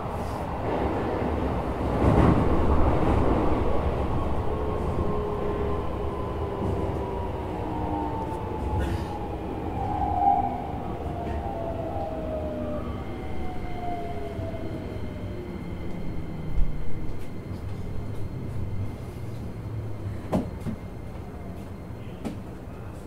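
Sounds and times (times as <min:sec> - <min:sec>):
train rail rumble: 0:00.0 - 0:23.0.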